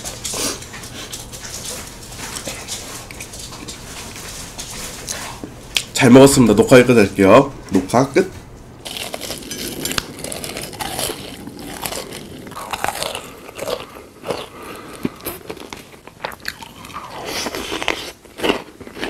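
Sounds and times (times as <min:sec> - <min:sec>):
crunchy chewing of food: 0:00.0 - 0:05.9, 0:08.8 - 0:19.0.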